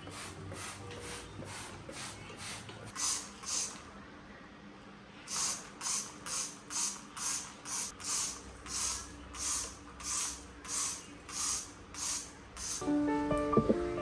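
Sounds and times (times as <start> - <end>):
spray bottle hissing sprays: 0.0 - 3.8, 5.3 - 12.8.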